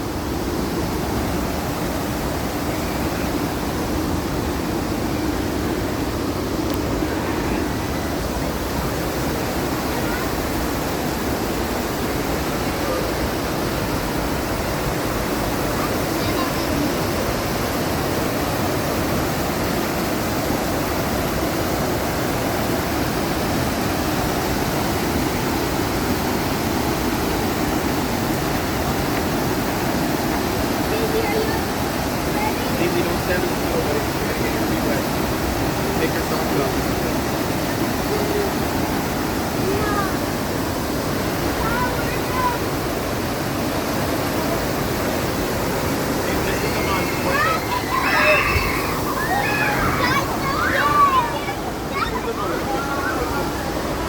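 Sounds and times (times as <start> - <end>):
rushing churning water: 0.0 - 54.0.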